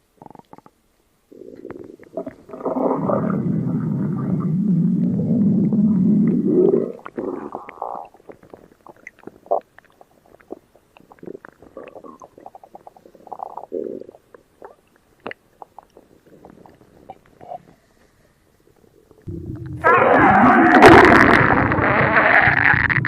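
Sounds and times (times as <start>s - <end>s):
stomach growling and gurgling: 0.1s - 23.0s.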